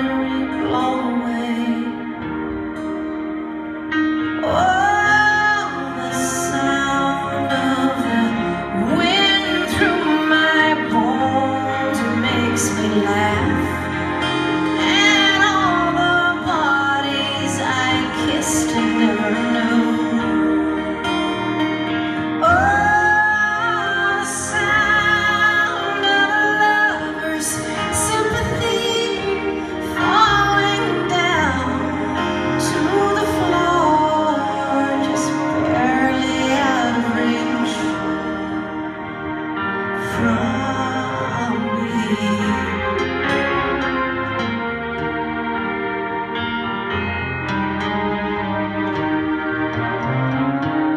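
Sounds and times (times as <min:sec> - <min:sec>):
woman singing into a microphone: 0:00.0 - 0:03.2, 0:04.3 - 0:44.0
keyboard accompaniment: 0:00.0 - 0:50.9.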